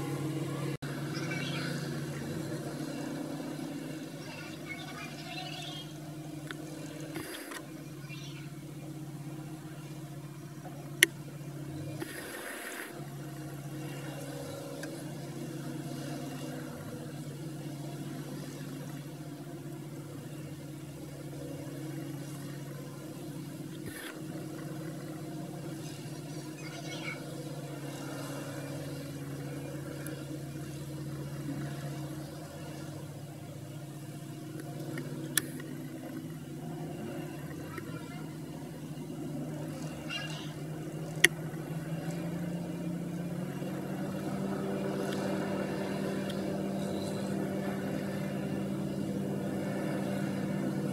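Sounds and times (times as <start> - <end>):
diesel engines droning: 0.0 - 50.9.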